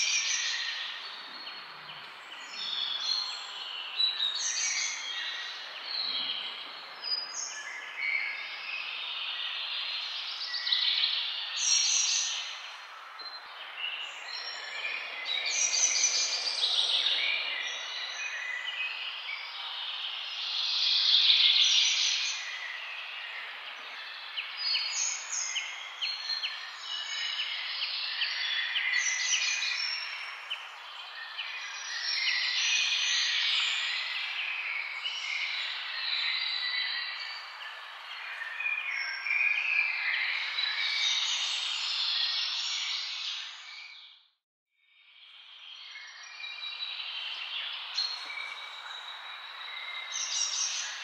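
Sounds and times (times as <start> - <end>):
songbirds chirping and trilling: 0.0 - 44.3, 45.3 - 51.0.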